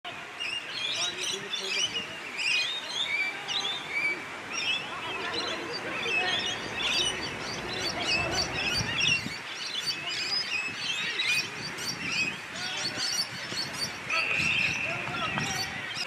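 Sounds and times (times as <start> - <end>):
birds chirping: 0.1 - 16.0
people calling: 0.2 - 16.0.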